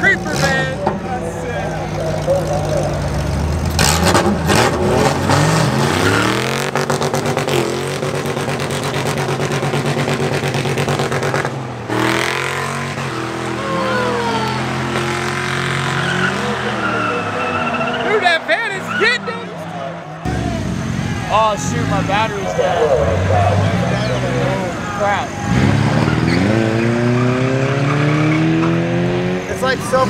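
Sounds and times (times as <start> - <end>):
drag racing engines at full throttle: 0.0 - 30.0.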